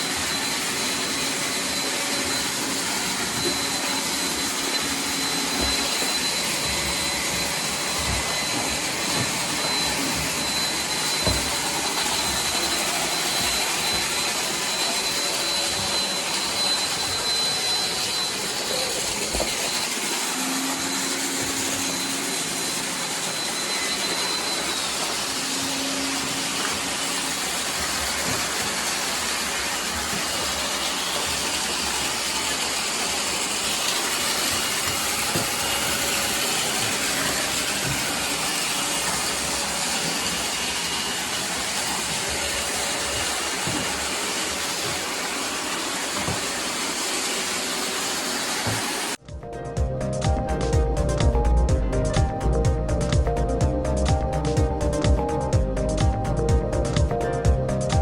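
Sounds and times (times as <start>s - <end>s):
robot vacuums whirring: 0.0s - 49.2s
thin high whine: 0.0s - 57.4s.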